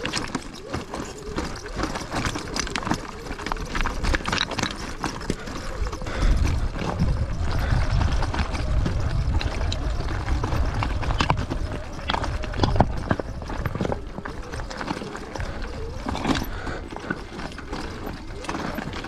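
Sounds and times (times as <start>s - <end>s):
rocks crunching under tyres: 0.0s - 19.0s.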